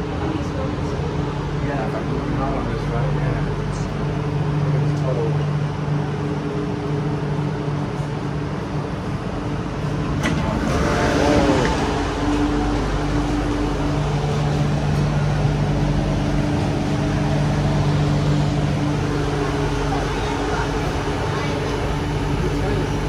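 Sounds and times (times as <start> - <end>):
train hum from inside: 0.0 - 23.0.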